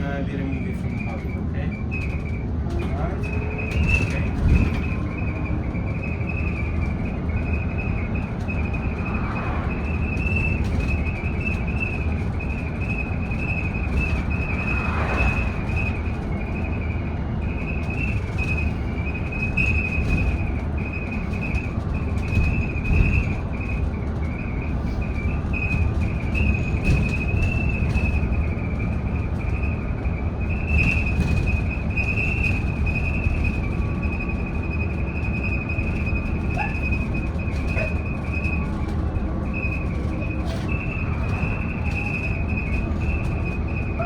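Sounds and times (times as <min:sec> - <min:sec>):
bus road rumble: 0:00.0 - 0:44.0.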